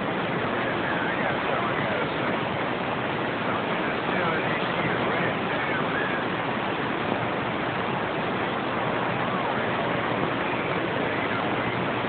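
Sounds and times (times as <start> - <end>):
faint distant radio voices: 0.0 - 12.0
radio static hiss: 0.0 - 12.0.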